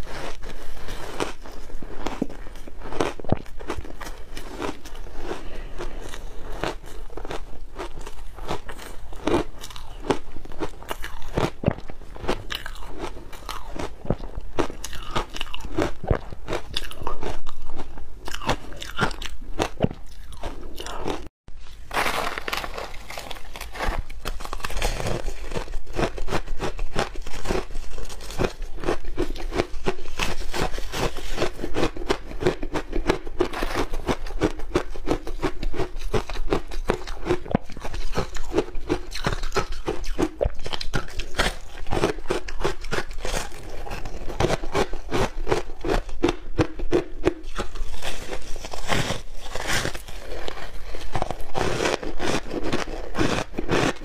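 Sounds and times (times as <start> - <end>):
crunching shaved ice: 0.0 - 54.0.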